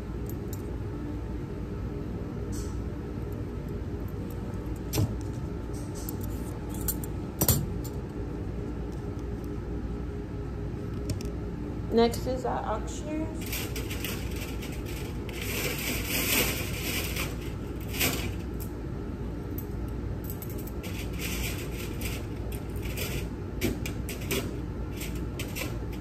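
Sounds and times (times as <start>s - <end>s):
steady low background hum: 0.0s - 26.0s.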